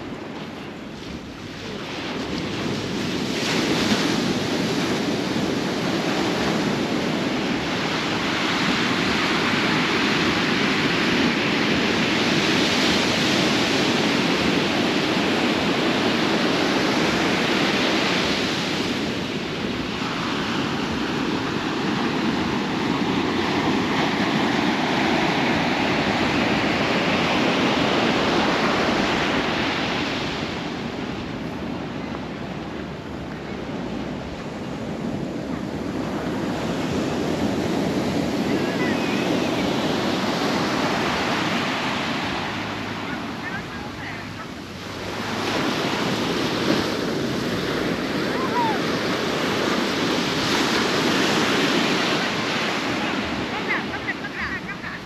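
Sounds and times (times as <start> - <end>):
ocean surf breaking on shore: 0.0 - 55.0
wind buffeting microphone: 0.0 - 55.0.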